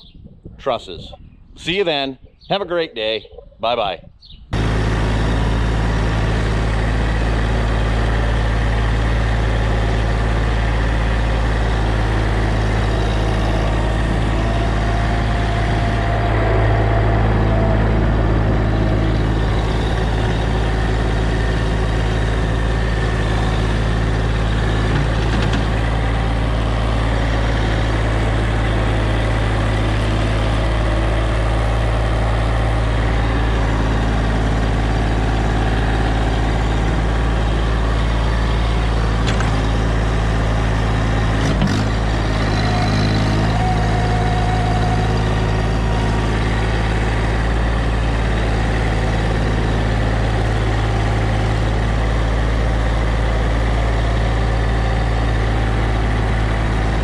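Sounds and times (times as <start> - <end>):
engine running steadily: 3.6 - 57.0.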